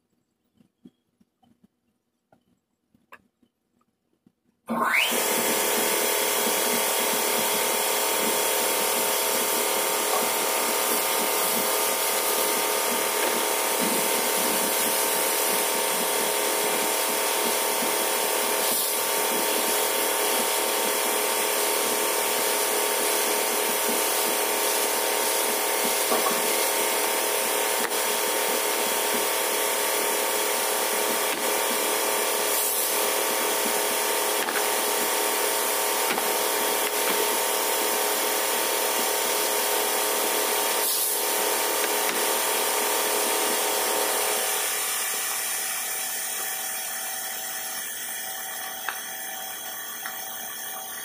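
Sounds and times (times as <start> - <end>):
motor machine whining and humming: 4.7 - 51.0
machine hiss: 5.3 - 51.0.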